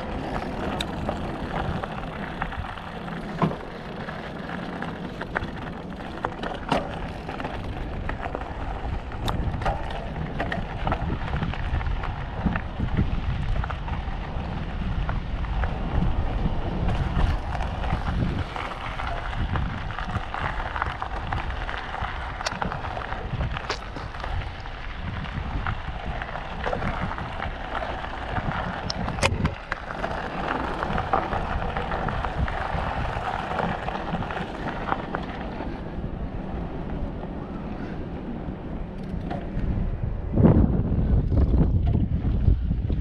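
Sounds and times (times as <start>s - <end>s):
bike clicks and rattles: 0.0s - 40.3s, 40.9s - 43.0s
bike tyres rumbling over rock: 0.0s - 43.0s.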